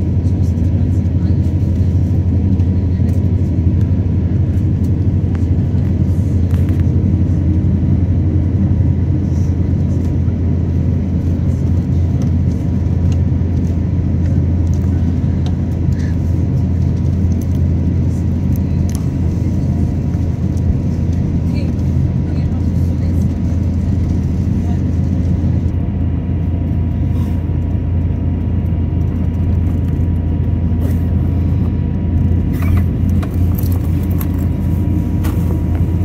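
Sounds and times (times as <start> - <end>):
aircraft engines rumbling: 0.0 - 36.0
aircraft rolling on taxiway: 0.0 - 36.0.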